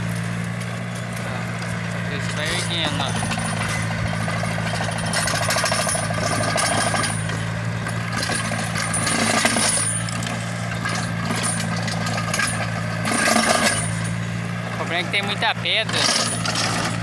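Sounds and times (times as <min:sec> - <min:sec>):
diesel tractor engine: 0:00.0 - 0:17.0
implement rattling over stony soil: 0:00.0 - 0:17.0.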